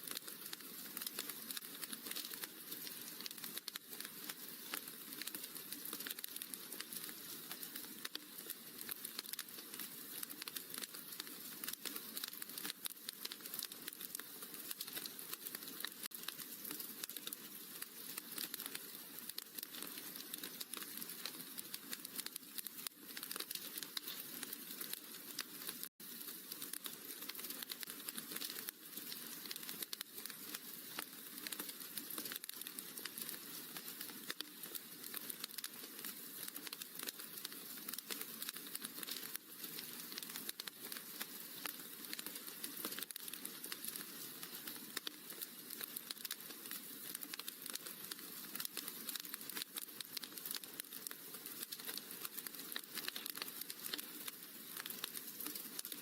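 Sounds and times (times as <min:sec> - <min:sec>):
wood fire crackling in fireplace: 0:00.0 - 0:56.0.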